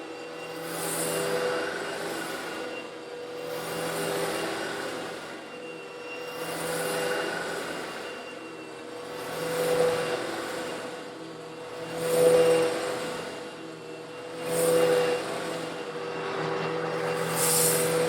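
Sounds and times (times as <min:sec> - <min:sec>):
vacuum cleaner motor hum: 0:00.0 - 0:18.0
vacuum sucking up grit: 0:00.0 - 0:18.0.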